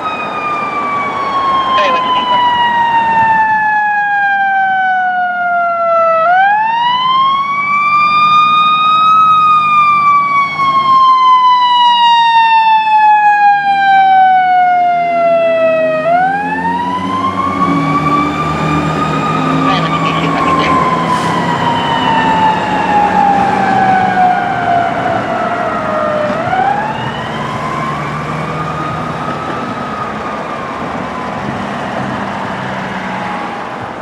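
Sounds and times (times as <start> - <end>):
fire engine siren wailing: 0.0 - 34.0.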